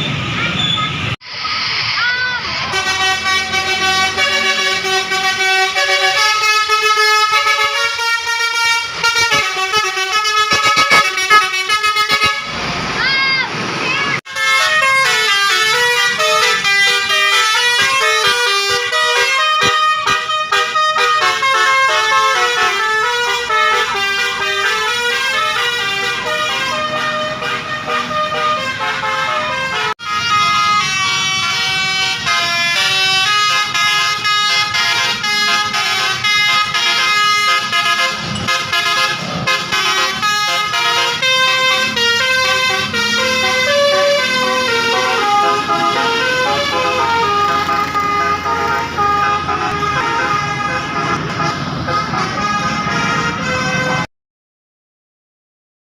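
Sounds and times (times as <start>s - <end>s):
bus air horn playing a tune: 2.6s - 12.6s, 14.3s - 54.1s.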